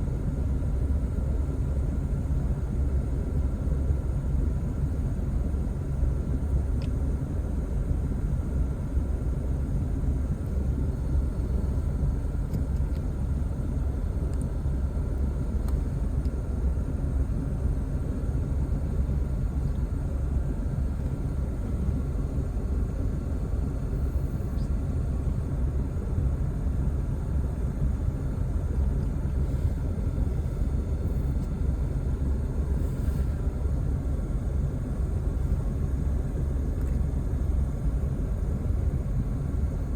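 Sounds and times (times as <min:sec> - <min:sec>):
low rumbling background noise: 0:00.0 - 0:39.9.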